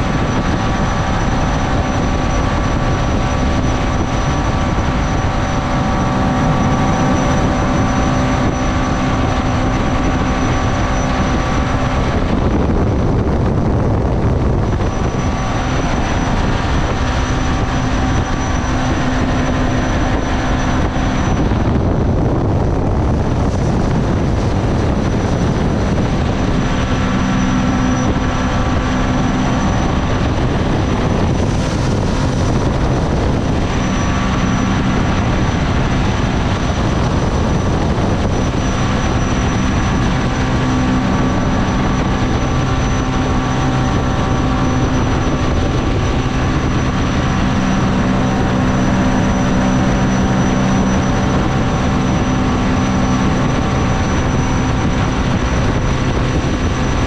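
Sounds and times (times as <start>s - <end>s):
boat engine running at speed: 0.0s - 57.0s
rushing water noise: 0.0s - 57.0s.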